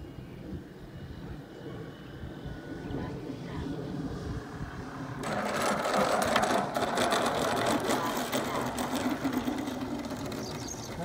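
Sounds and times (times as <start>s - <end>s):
model plane engine running: 0.0s - 11.0s.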